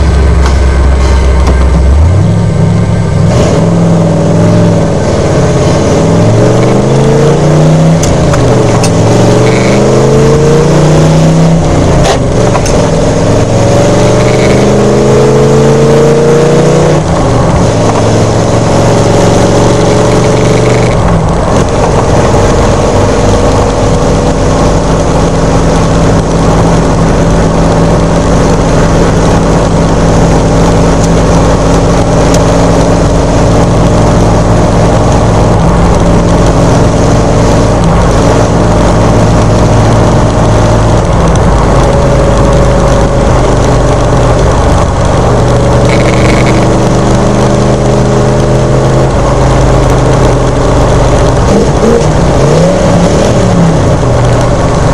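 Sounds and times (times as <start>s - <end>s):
truck engine accelerating and cruising: 0.0s - 54.9s.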